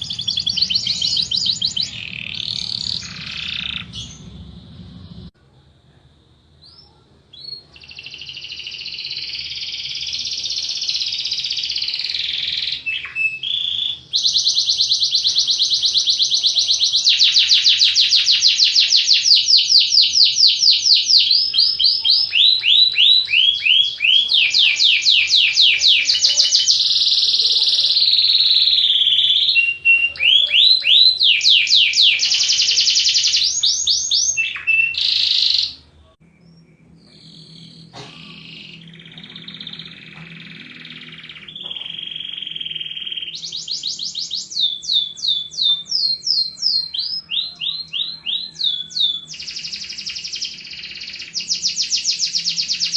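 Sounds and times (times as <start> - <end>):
canary singing with trills: 0.0 - 5.4, 6.6 - 52.9.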